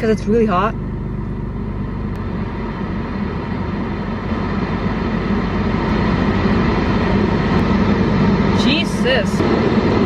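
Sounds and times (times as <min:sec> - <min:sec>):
car blower fan rushing air: 0:00.0 - 0:10.0
car engine idling: 0:00.0 - 0:10.0.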